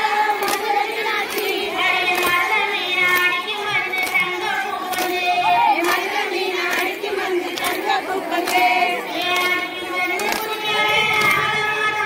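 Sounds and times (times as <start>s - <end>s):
hands clapping in unison: 0.0s - 12.0s
women singing folk song: 0.0s - 12.0s.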